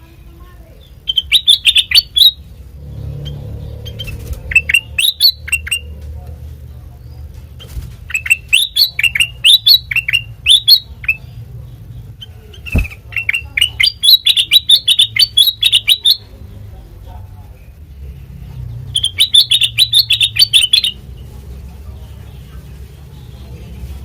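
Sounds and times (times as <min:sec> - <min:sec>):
bird chirping: 0:00.5 - 0:06.0, 0:06.7 - 0:24.0.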